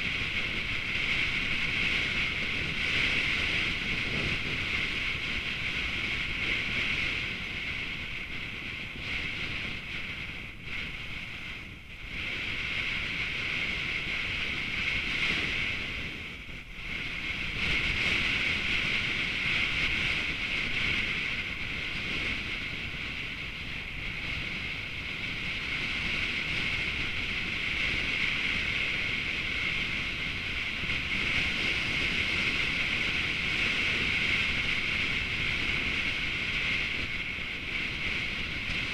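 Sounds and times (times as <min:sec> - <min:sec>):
wind on microphone: 0:00.0 - 0:38.9.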